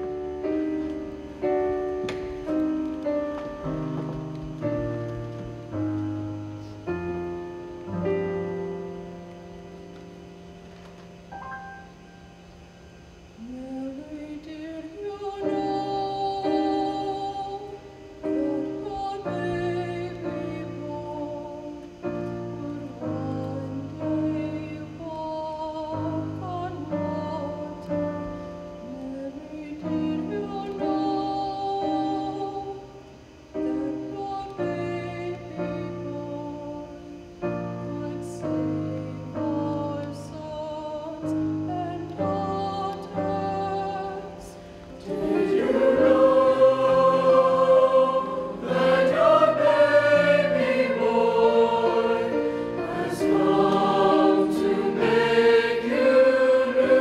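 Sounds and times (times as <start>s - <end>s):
choir singing held chords: 11.2s - 57.0s.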